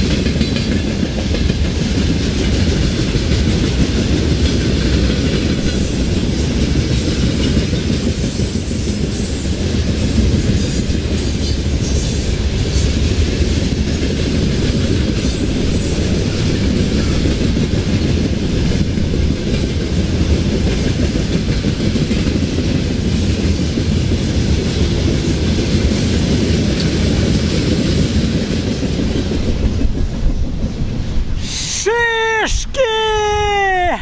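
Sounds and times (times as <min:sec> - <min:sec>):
freight train wheels rumbling: 0:00.0 - 0:32.2.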